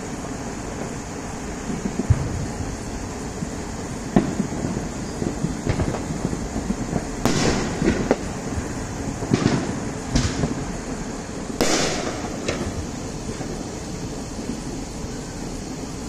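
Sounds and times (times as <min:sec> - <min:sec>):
distant fireworks bangs: 0:00.0 - 0:16.0.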